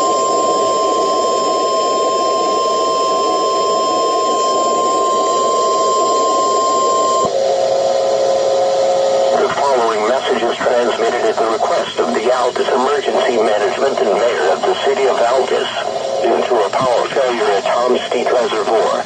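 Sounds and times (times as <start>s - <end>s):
noisy radio background: 3.0s - 19.0s.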